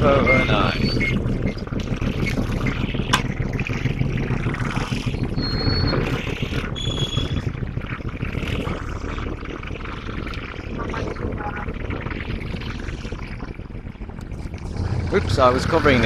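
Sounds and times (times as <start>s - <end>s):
diesel locomotive idling: 0.0s - 16.0s.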